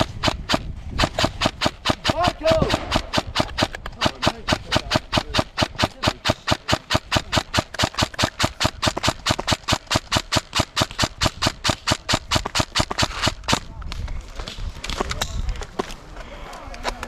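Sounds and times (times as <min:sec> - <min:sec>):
airsoft gun firing: 0:00.0 - 0:13.7.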